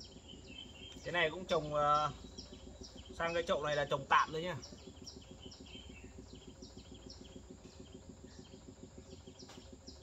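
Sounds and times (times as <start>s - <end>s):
low pulsing hum: 0.0s - 10.0s
small birds chirping: 0.0s - 10.0s.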